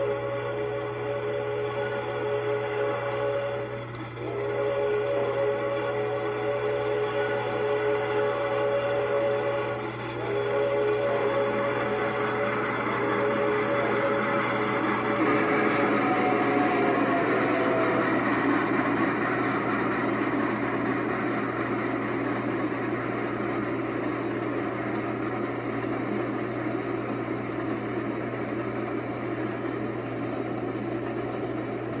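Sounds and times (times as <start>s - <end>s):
train rumbling past: 0.0s - 32.0s.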